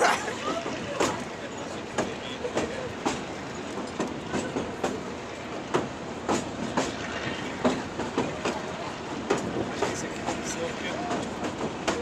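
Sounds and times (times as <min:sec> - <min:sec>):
clacks at rail joints: 0:00.0 - 0:12.0
train wheels rumbling: 0:00.0 - 0:12.0.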